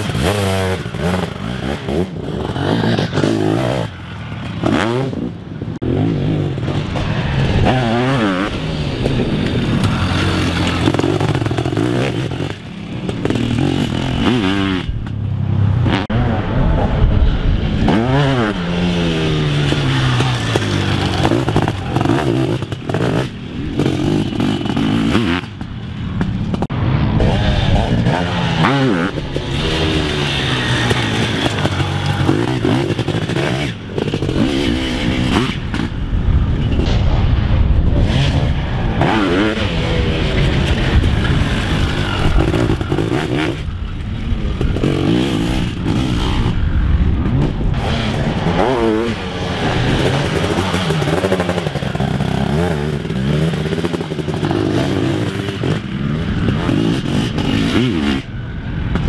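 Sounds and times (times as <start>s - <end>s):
motocross engines revving: 0.0s - 37.0s, 37.9s - 59.0s.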